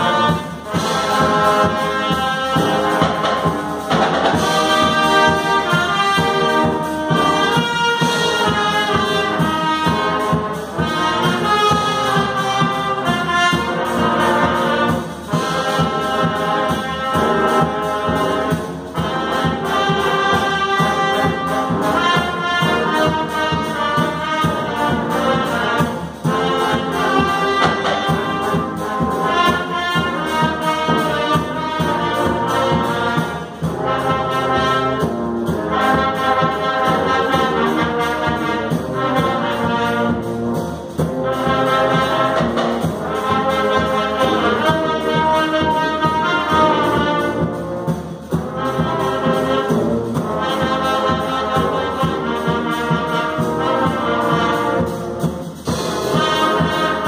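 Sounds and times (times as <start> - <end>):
wind band playing a march: 0.0 - 57.0.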